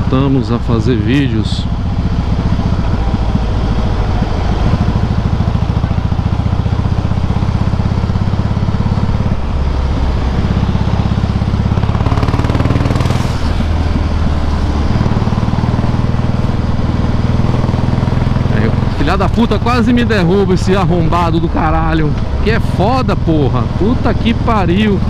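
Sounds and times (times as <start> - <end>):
motorcycle engine running loud: 0.0 - 25.0.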